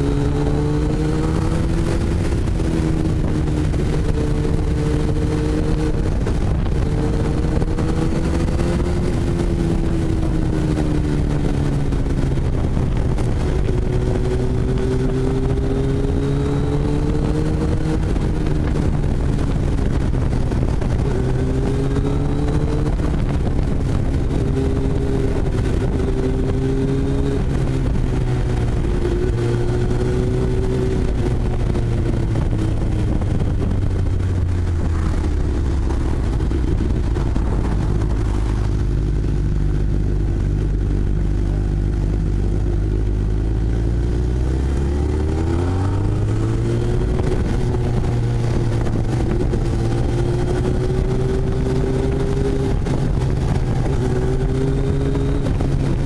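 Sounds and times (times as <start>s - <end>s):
heavy wind rush: 0.0s - 56.0s
motorcycle engine at speed: 0.0s - 56.0s.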